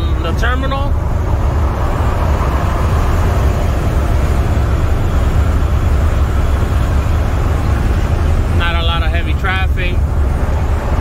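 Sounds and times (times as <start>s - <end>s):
diesel truck engine drone: 0.0s - 11.0s
tyre and road noise: 0.0s - 11.0s.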